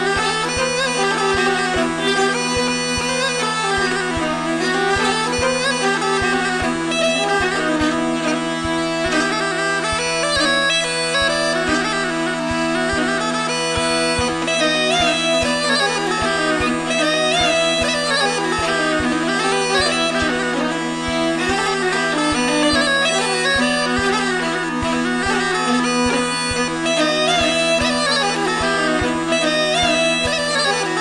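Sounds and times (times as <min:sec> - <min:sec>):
bagpipe music: 0:00.0 - 0:31.0.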